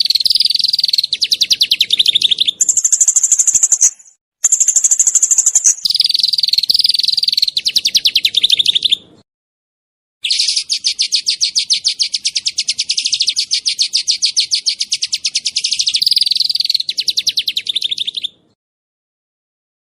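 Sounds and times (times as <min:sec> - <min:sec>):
songbird rapid trill: 0:00.0 - 0:09.1, 0:10.2 - 0:18.5.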